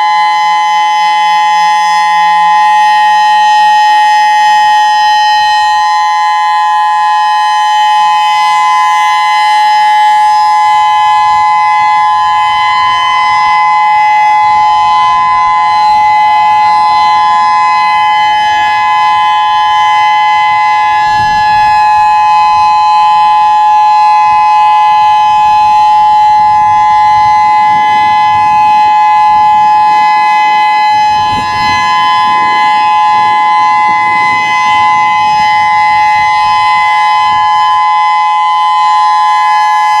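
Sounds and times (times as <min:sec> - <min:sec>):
electronic warning siren: 0:00.0 - 0:40.0.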